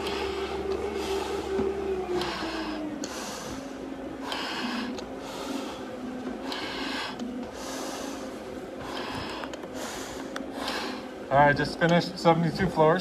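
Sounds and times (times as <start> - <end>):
hissing breaths through face mask: 0.0 - 11.2
low hum: 0.0 - 11.8.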